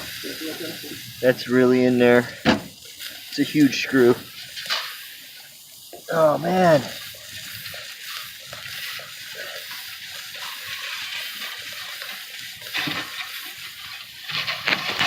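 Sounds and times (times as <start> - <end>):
air hissing from tire puncture: 0.0 - 15.0.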